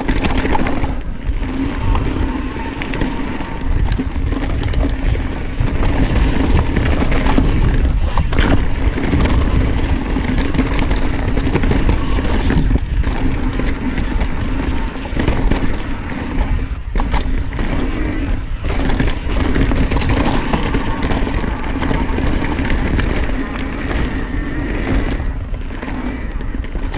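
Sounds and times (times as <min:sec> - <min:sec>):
bike rattling and clicking: 0:00.0 - 0:26.9
bike tyres rolling on dirt: 0:00.0 - 0:26.9
wind rush on microphone: 0:00.0 - 0:26.9.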